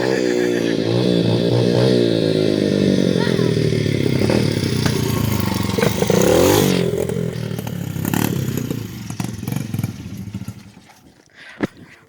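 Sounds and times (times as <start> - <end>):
dirt bike engine revving: 0.0 - 11.1.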